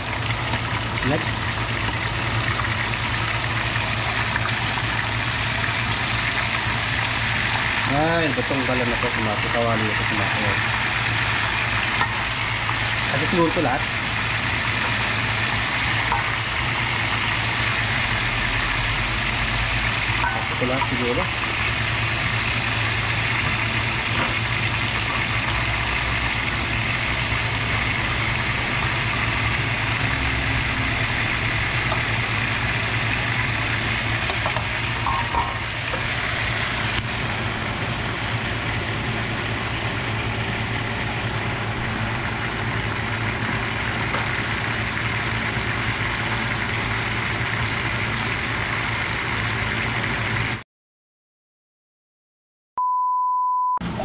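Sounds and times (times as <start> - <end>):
oil sizzling deep-frying fish: 0.0 - 50.6.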